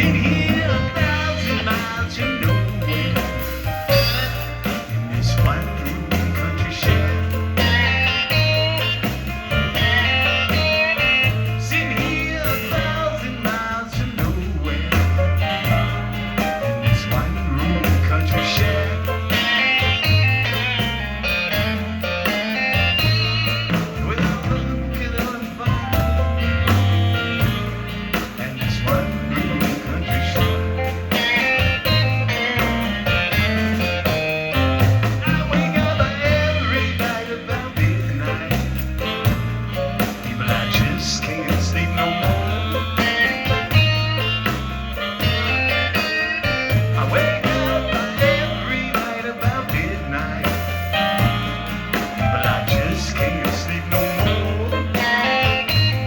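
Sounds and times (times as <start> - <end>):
guitar: 0.0 - 56.0
live blues band playing: 0.0 - 56.0
stepping bass line: 0.0 - 56.0.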